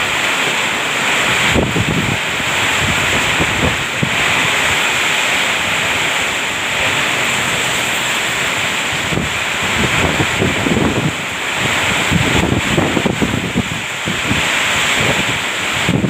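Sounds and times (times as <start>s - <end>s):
heavy rain pouring: 0.0s - 16.0s
wind buffeting microphone: 0.0s - 16.0s.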